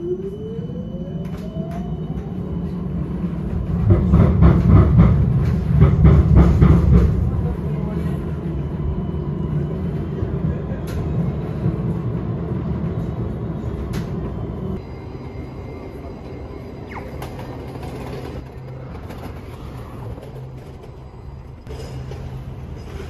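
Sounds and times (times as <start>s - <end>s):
rail vehicle rumbling: 0.0s - 23.0s.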